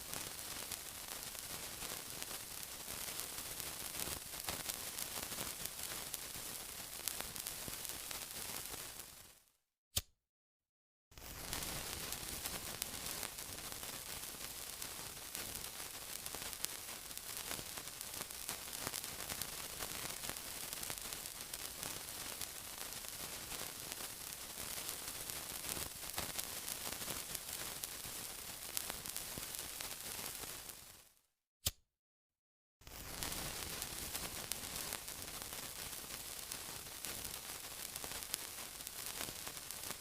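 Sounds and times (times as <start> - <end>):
sizzling with pops and crackles: 0.0 - 10.1, 11.1 - 31.8, 32.8 - 40.0.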